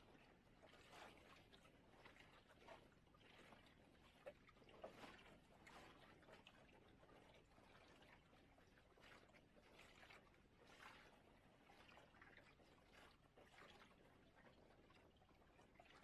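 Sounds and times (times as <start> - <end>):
water lapping against boat hull: 0.0 - 16.0.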